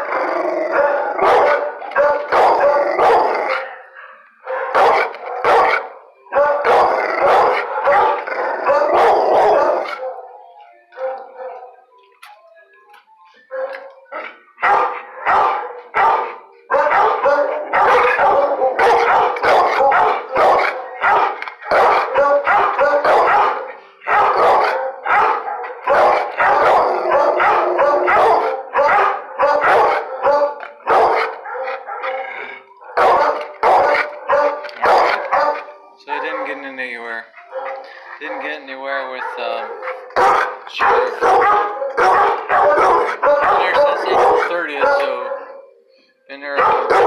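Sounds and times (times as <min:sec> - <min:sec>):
dogs barking: 0:00.0 - 0:11.9, 0:13.5 - 0:45.8, 0:46.5 - 0:47.0.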